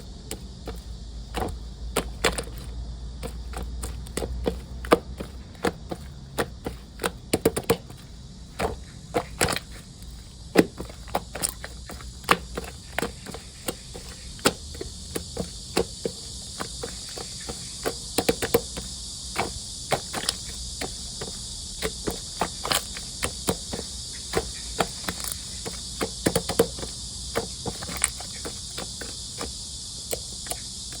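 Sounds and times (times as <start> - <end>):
high background hiss: 0.0 - 31.0.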